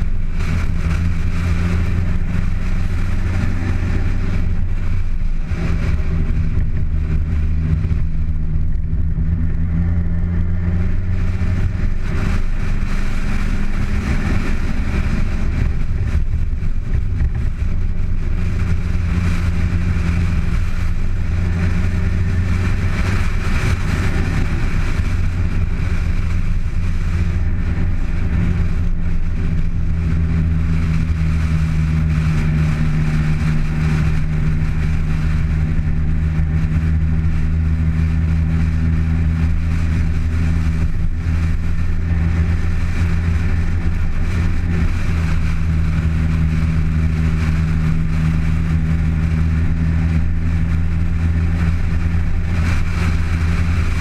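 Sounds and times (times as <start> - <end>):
car engine droning: 0.0 - 54.0
road noise: 0.0 - 54.0.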